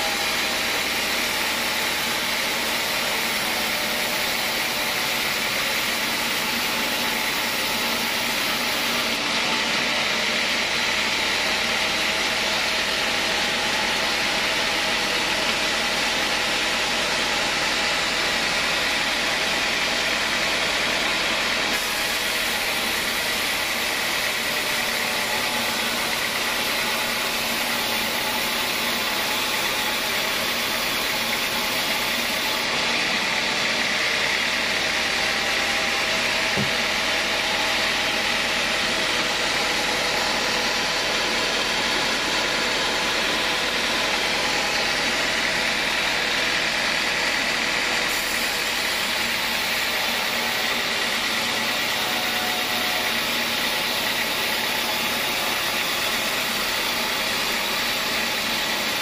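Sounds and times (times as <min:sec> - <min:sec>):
band saw cutting wood: 0:00.0 - 0:59.0
steady motor hum: 0:00.0 - 0:59.0.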